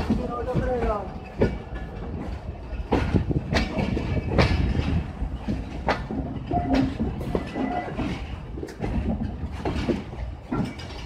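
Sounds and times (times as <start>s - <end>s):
low train rumble: 0.0s - 11.0s
train wheels knocking over rail joints: 0.0s - 11.0s.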